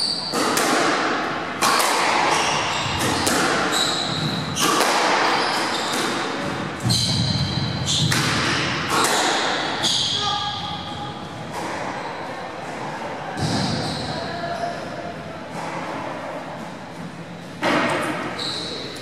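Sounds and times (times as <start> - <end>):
squash ball hitting rackets and walls: 0.0 - 14.2, 17.6 - 19.0.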